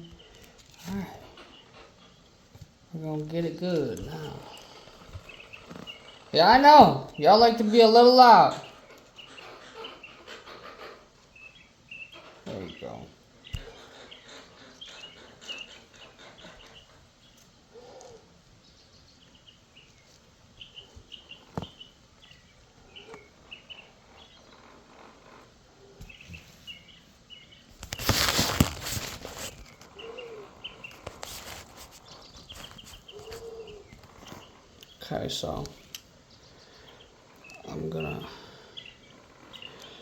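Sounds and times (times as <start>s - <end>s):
birds chirping: 0.0s - 40.0s
loud rustling: 0.0s - 40.0s.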